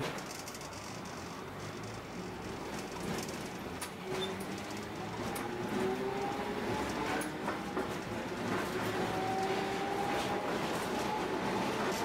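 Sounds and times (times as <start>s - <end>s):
streetcar rumble: 0.0s - 12.0s
wheels clicking and rattling: 0.0s - 12.0s
streetcar motor whine: 0.1s - 12.0s.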